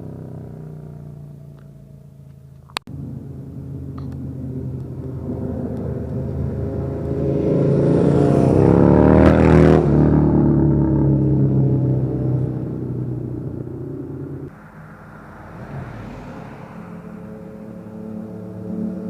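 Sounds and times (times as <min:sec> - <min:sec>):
motorcycle passing by: 0:00.0 - 0:19.0.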